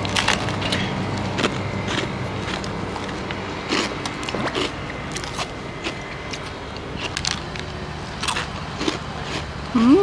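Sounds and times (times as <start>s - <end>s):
crunchy eating clicks: 0.0s - 9.8s
street traffic hum: 0.0s - 10.0s.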